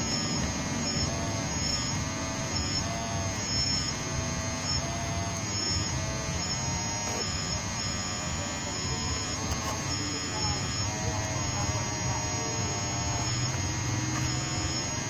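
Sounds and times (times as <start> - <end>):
toy excavator motors whining: 0.0 - 15.0.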